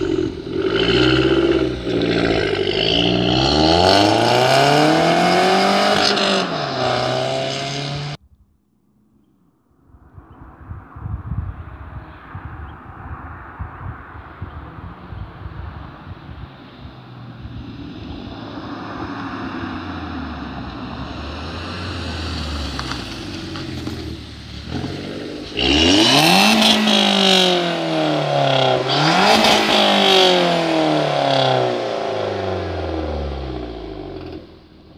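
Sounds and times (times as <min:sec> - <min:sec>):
car engine accelerating: 0:00.0 - 0:08.2, 0:11.0 - 0:34.9.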